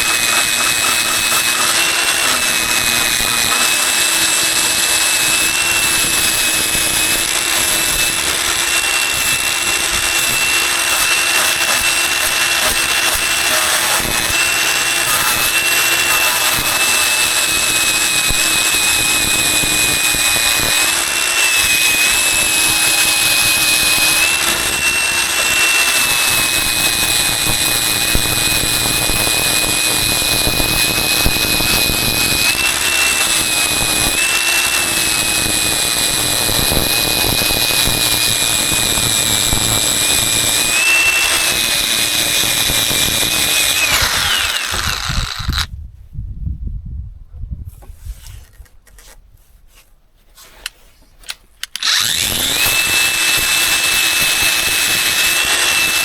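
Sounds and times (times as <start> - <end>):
power tool motor whine: 0.0 - 45.7, 51.6 - 56.0.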